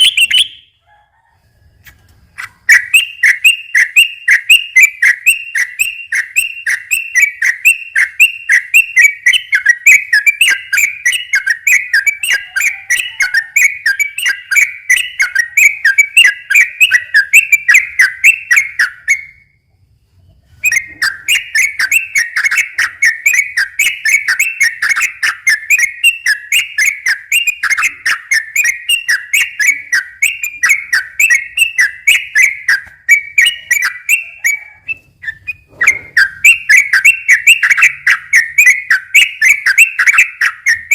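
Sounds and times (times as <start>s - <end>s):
bulbul singing rapid whistled notes: 0.0s - 0.8s, 2.6s - 19.5s, 20.6s - 40.9s.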